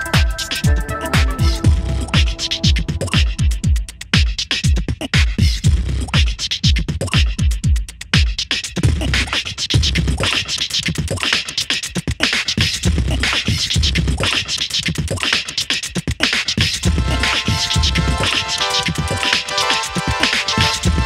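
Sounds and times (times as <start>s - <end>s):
busy high percussion: 0.0s - 21.0s.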